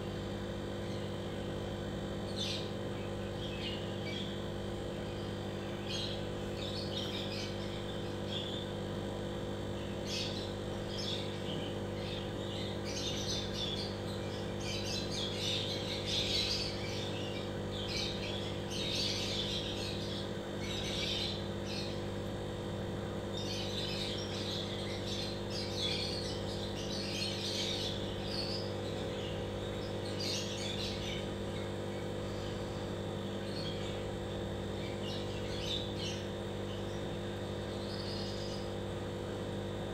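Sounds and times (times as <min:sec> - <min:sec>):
aquarium air pump humming: 0:00.0 - 0:39.9.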